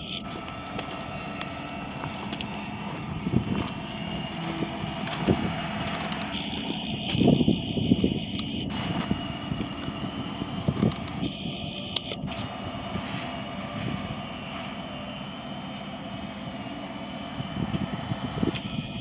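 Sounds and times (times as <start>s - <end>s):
low rumble of freight cars: 0.0s - 19.0s
train wheels squealing: 0.0s - 19.0s.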